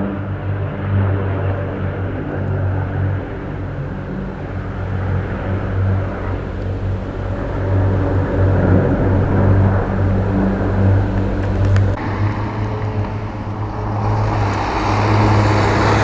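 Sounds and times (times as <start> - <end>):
low engine drone: 0.0 - 16.0
rushing noise: 1.7 - 16.0.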